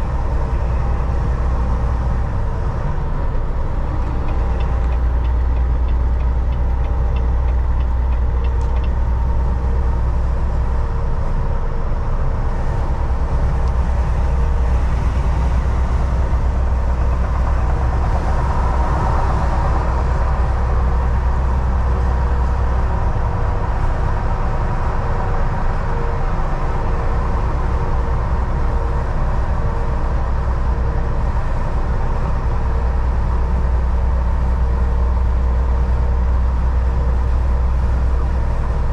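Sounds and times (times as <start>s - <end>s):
road noise: 0.0s - 38.9s
truck diesel engine droning: 0.0s - 38.9s.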